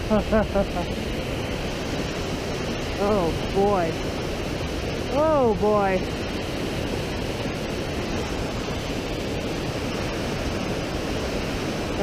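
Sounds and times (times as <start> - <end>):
creek rushing over boulders: 0.0 - 12.0.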